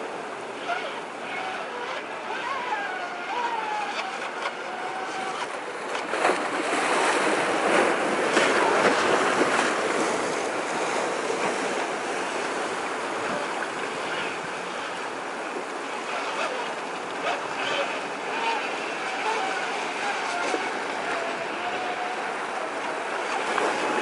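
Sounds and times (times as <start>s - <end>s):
high motor whine of toy boat: 0.0s - 24.0s
ocean surf washing: 0.0s - 24.0s.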